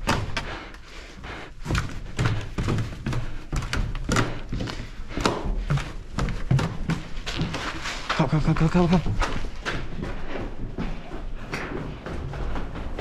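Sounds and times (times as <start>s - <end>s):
running footsteps: 0.0s - 13.0s.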